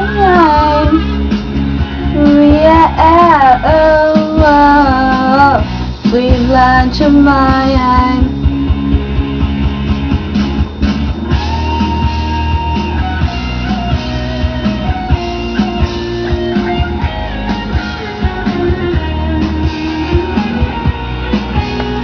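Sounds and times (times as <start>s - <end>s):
bass guitar: 0.0s - 22.0s
lead guitar with bent notes: 0.0s - 22.0s
steady drum beat: 0.0s - 22.0s.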